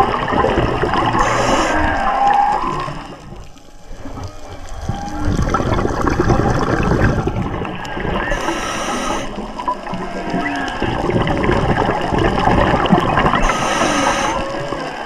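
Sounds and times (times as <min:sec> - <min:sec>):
underwater bubbling and crackling: 0:00.0 - 0:15.0
faint whale song moans: 0:00.3 - 0:06.0, 0:07.0 - 0:15.0.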